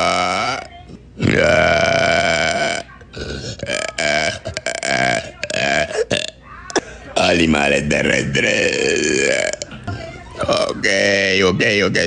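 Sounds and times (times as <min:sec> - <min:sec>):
woman burping: 0:00.0 - 0:07.0, 0:08.1 - 0:11.2.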